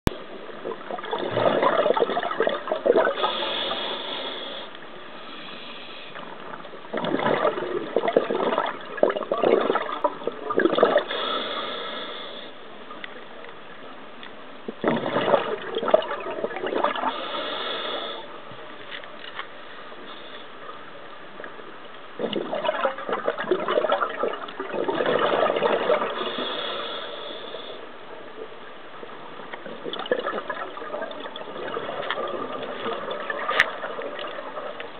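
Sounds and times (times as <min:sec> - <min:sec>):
exhaled bubbles gurgling underwater: 0:00.1 - 0:04.8, 0:06.2 - 0:13.1, 0:14.6 - 0:18.7, 0:20.0 - 0:34.9.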